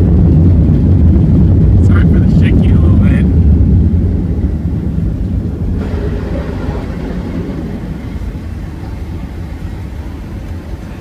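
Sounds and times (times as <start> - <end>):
jet cabin engine and runway rumble: 0.0 - 11.0.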